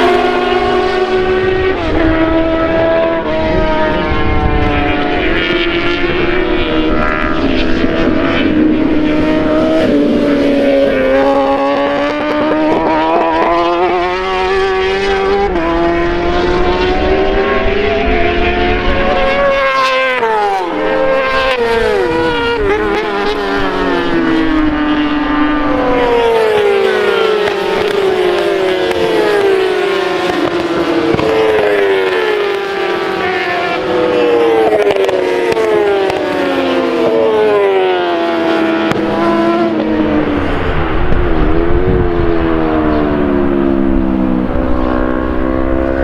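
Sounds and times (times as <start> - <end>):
racing motorcycle engines revving: 0.0 - 46.0.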